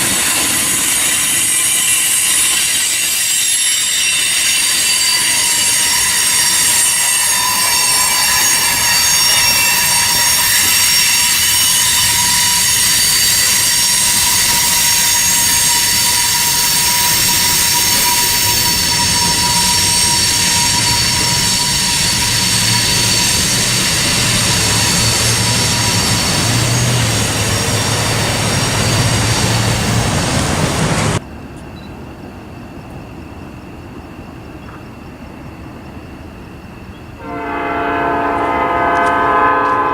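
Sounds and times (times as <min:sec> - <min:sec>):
train wheels squealing: 0:00.0 - 0:32.0, 0:32.7 - 0:39.9
low rumble of train: 0:00.0 - 0:39.9.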